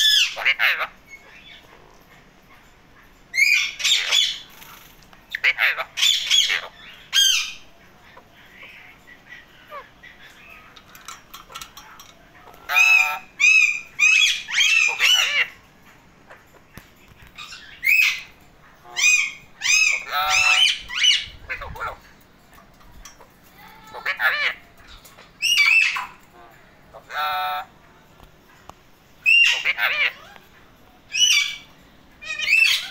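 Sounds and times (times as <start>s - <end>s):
parakeets squawking: 0.0s - 28.6s, 29.2s - 32.9s.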